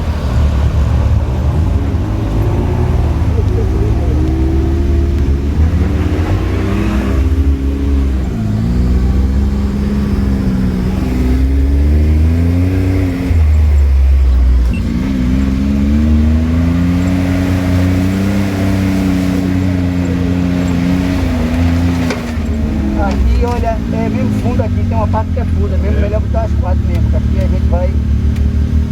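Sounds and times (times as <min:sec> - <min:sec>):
off-road vehicle engine under load: 0:00.0 - 0:28.9.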